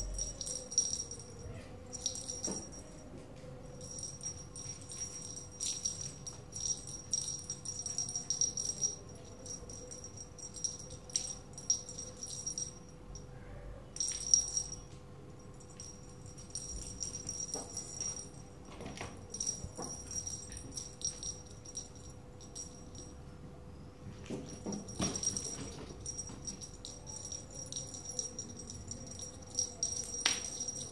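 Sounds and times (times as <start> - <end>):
small bell jingling: 0.0 - 23.3, 24.2 - 30.9.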